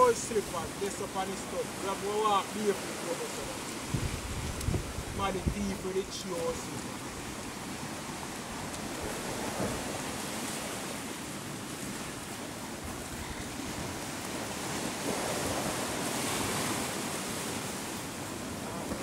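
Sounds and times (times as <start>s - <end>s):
sea waves washing: 0.0s - 19.0s
wind blowing on microphone: 0.0s - 19.0s.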